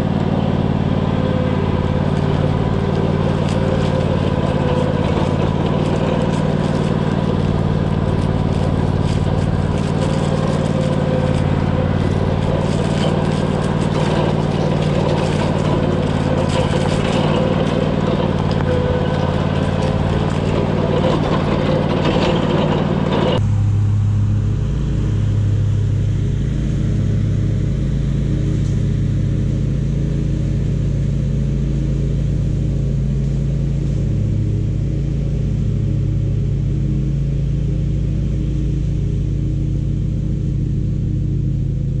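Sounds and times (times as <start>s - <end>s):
riding mower engine running: 0.0s - 42.0s.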